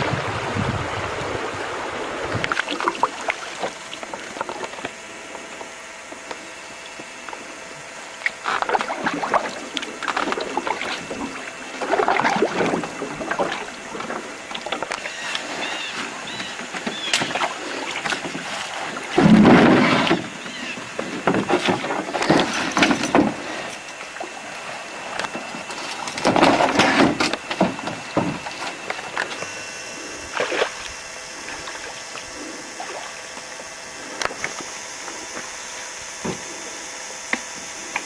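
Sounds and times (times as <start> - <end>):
paddles splashing in water: 0.0 - 6.3, 8.2 - 29.6, 30.2 - 34.7.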